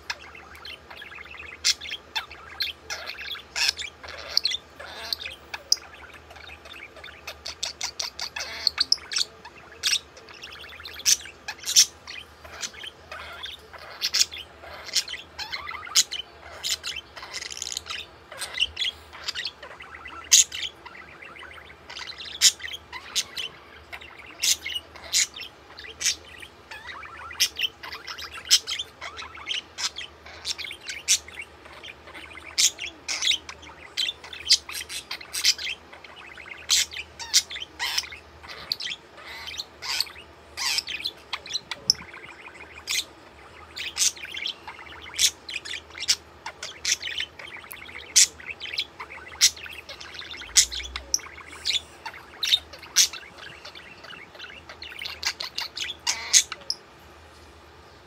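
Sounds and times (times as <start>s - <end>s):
budgerigar chirping: 0.0s - 56.8s.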